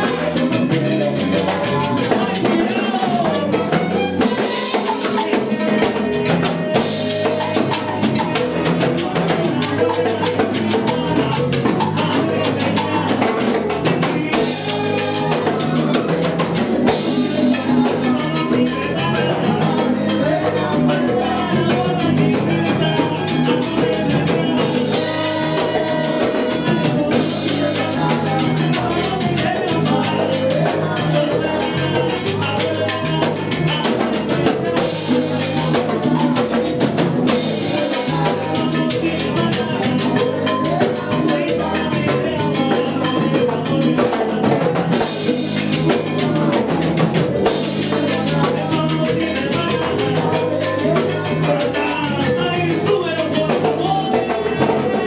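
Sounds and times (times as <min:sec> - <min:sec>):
drum kit and percussion: 0:00.0 - 0:55.0
salsa orchestra playing: 0:00.0 - 0:55.0.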